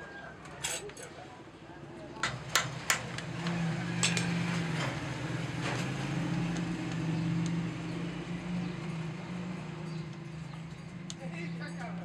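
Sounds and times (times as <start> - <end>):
engine hum: 2.2 - 12.0.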